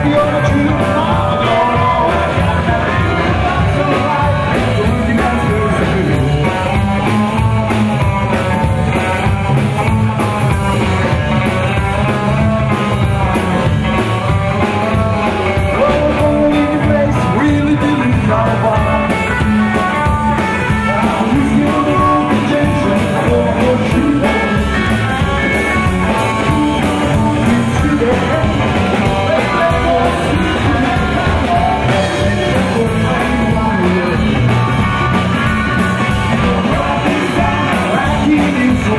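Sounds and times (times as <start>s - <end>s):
drum kit with snare and cymbals: 0.0s - 38.9s
electric guitar: 0.0s - 38.9s
person singing: 0.0s - 38.9s
upright double bass: 0.0s - 38.9s.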